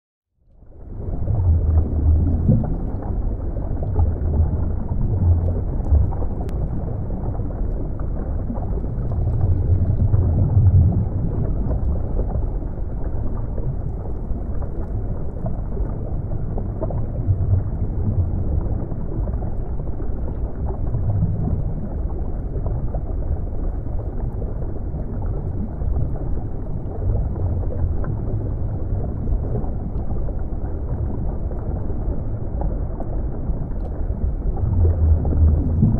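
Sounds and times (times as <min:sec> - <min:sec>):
dull underwater rumble: 0:00.3 - 0:35.9.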